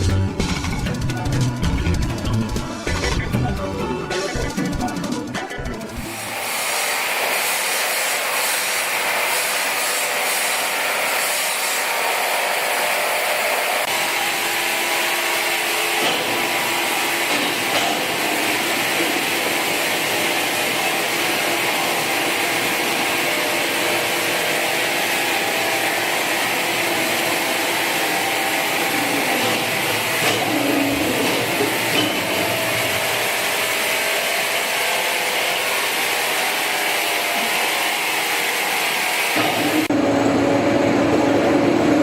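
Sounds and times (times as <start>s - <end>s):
sawmill machinery running: 0.0s - 42.0s.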